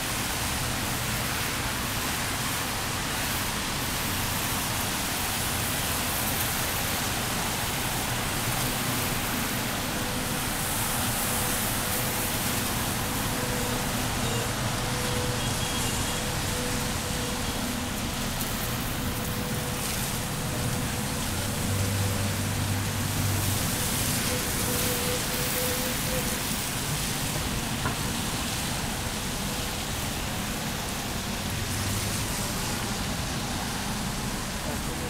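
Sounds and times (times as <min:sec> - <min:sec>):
rain on a street: 0:00.0 - 0:35.0
road traffic hum: 0:00.0 - 0:35.0.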